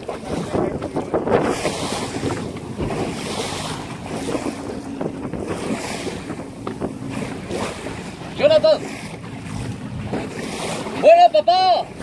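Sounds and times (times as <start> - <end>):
choppy waves sloshing: 0.0 - 12.0
outboard motor running: 0.0 - 12.0
wind buffeting microphone: 0.0 - 12.0.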